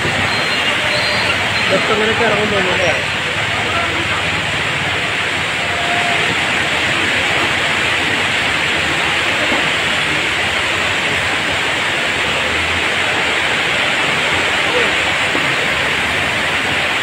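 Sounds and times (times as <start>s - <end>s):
floodwater rushing: 0.0s - 17.0s
heavy rain: 0.0s - 17.0s.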